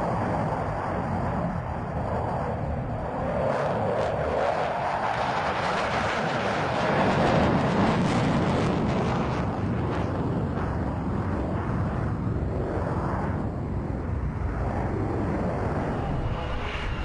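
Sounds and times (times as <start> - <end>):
fighter jet engines roaring: 0.0 - 17.0.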